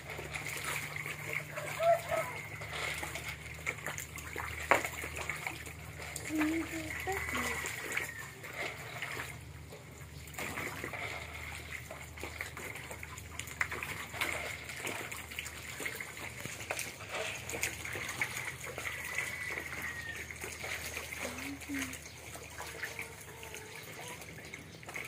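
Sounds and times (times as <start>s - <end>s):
shallow water trickling: 0.0s - 25.0s
small water splashes: 0.0s - 25.0s.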